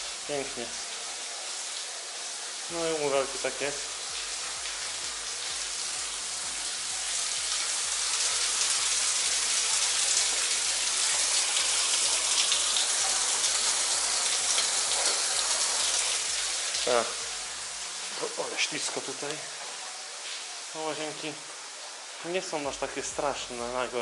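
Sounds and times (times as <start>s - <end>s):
shower spray hissing on tiles: 0.0s - 24.0s.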